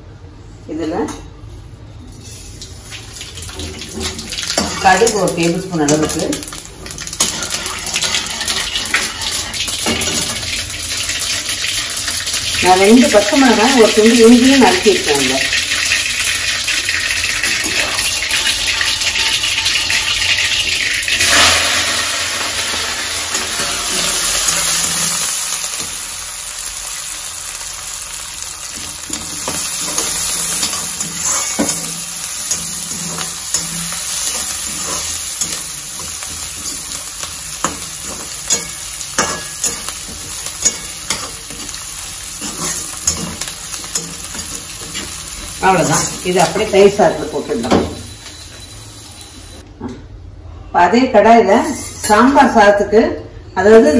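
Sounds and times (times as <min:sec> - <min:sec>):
spices sizzling in hot oil: 0:02.0 - 0:49.6.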